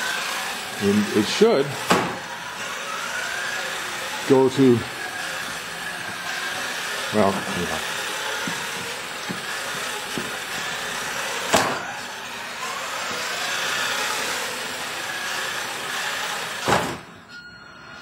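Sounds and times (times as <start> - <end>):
toy car motor whine: 0.0 - 17.2.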